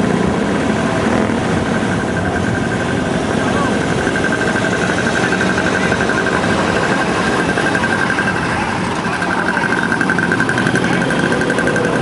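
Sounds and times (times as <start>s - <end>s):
high-pitched pulsing tone: 0.0s - 12.0s
motorcycle engines cruising: 0.0s - 12.0s.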